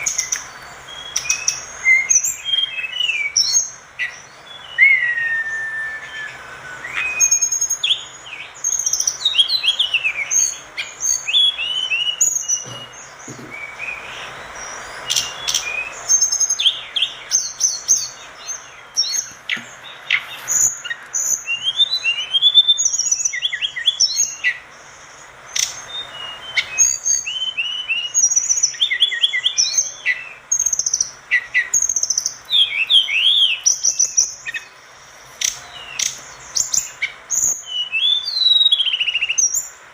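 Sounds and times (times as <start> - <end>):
bird singing whistled notes: 0.0 - 39.9
steady hiss: 0.0 - 39.9.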